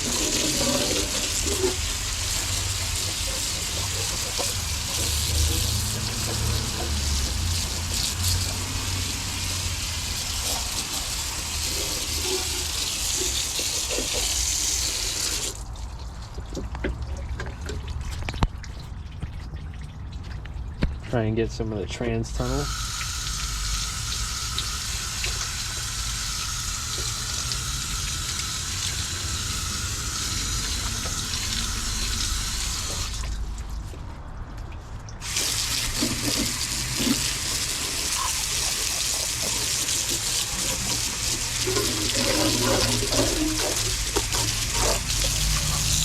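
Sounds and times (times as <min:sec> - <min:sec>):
water spraying on sheet metal: 0:00.0 - 0:15.6, 0:22.4 - 0:33.2, 0:35.2 - 0:46.0.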